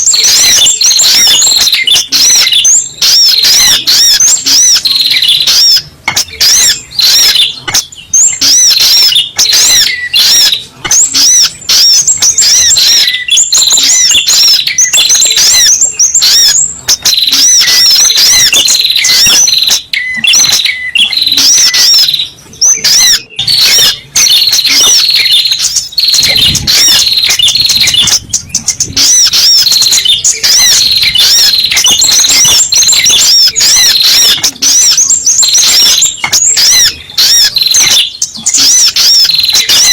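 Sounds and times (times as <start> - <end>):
rapid high bird chirping: 0.0 - 39.9.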